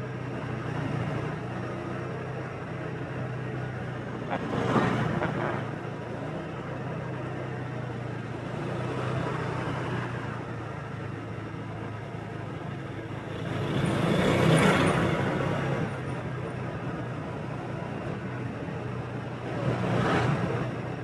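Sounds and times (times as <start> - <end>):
road and wind noise: 0.0 - 21.0.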